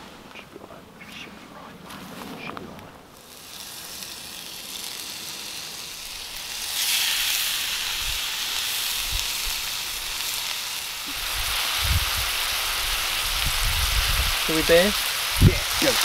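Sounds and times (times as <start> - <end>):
burgers sizzling in a pan: 3.2 - 16.0.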